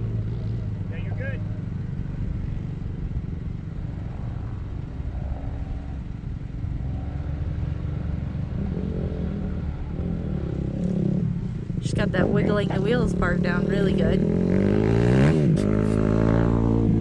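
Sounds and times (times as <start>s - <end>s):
car engine pulling uphill: 0.0s - 17.0s.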